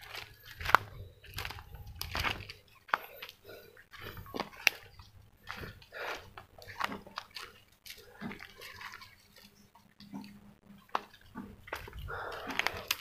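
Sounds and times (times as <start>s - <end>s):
footsteps crunching through dry grass: 0.0s - 9.9s, 10.9s - 13.0s.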